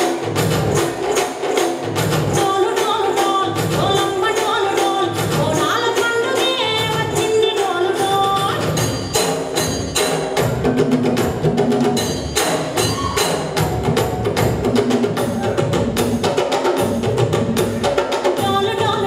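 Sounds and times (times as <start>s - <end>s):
dance music with percussion beat: 0.0s - 19.0s.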